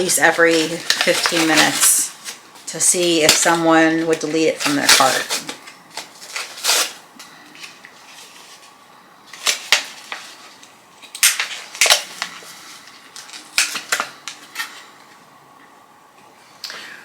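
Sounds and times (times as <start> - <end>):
plastic packaging crackling: 0.0 - 14.9.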